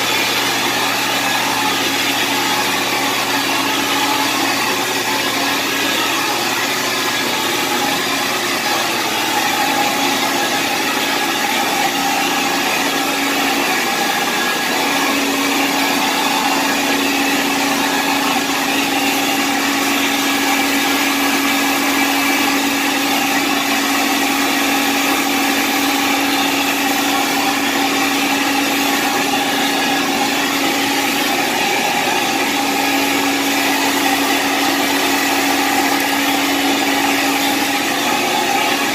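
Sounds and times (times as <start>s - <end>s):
carpet cleaner motor humming: 0.0s - 38.9s.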